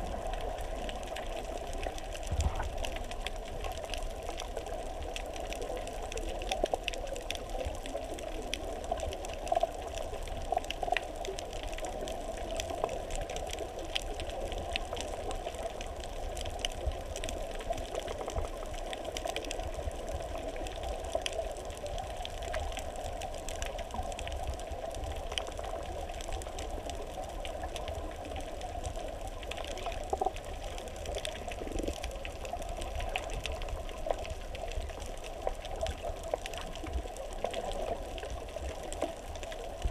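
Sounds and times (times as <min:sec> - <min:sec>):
faint clicks and crackles: 0:00.0 - 0:39.9
muffled underwater rush: 0:00.0 - 0:39.9.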